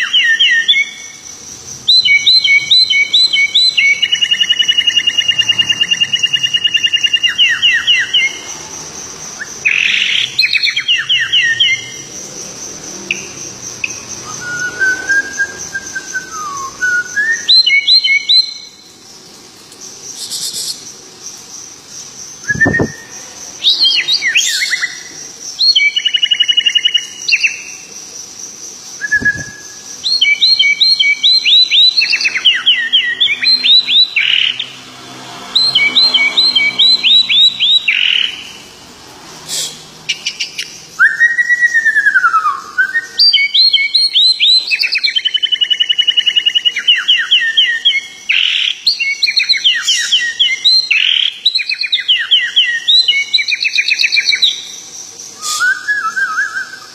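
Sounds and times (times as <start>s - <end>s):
bird singing rapid chirps: 0.0s - 38.8s, 39.5s - 56.9s.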